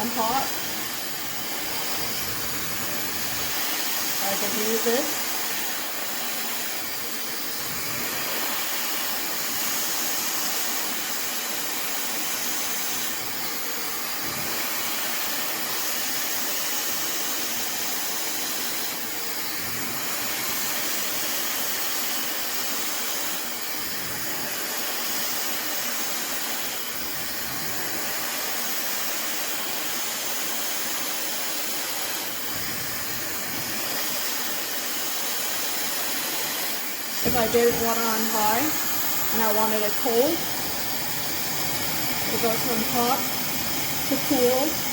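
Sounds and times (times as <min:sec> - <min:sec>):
hair dryer blowing: 0:00.0 - 0:44.9.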